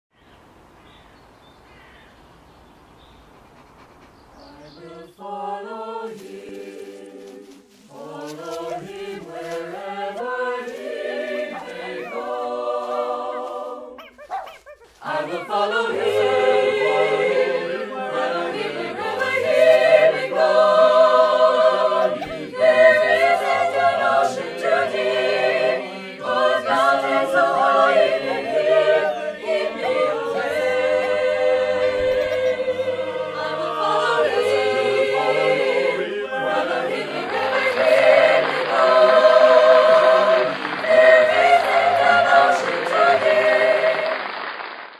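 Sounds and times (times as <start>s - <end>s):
choir singing unaccompanied: 4.3s - 14.4s, 15.0s - 44.3s.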